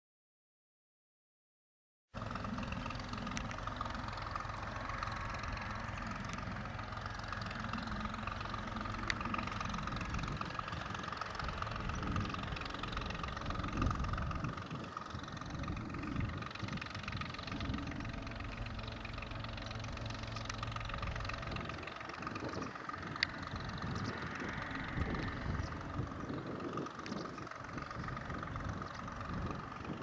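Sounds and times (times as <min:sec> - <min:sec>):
tractor engine under load: 0:02.2 - 0:30.0.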